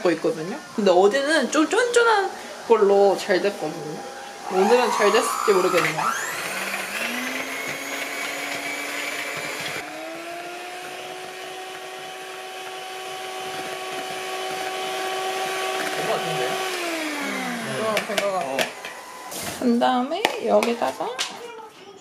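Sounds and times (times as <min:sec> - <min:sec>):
electric hand mixer whining: 0:00.0 - 0:21.2.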